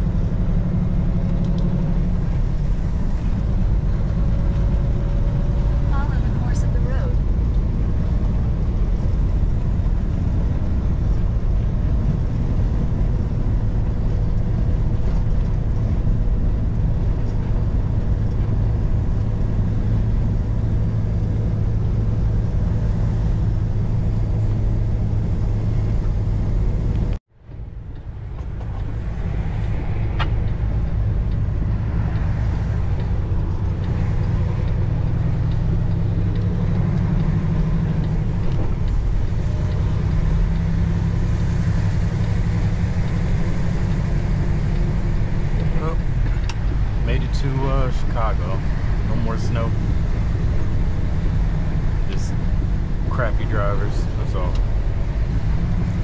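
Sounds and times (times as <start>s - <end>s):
diesel truck engine drone: 0.0s - 56.0s
road noise: 0.0s - 56.0s.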